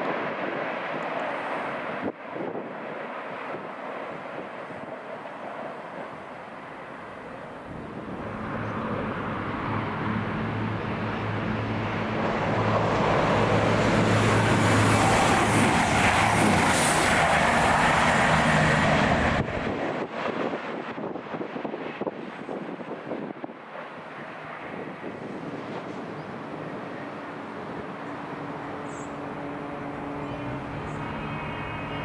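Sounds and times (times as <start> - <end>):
wind buffeting microphone: 0.0 - 31.1
train passing at speed: 0.0 - 32.0.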